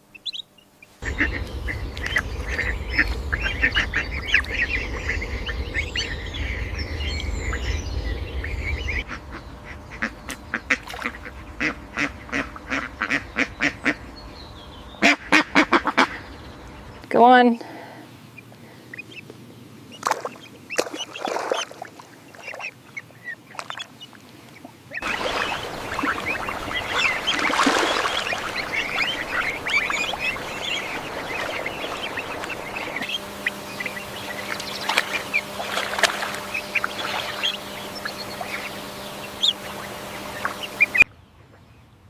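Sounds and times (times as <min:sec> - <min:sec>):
ducks calling: 0:00.0 - 0:17.1, 0:17.7 - 0:41.1.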